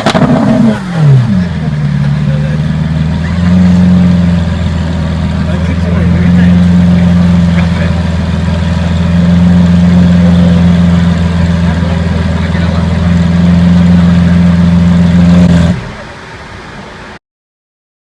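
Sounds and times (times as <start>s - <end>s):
car engine idling loudly: 0.0s - 17.2s.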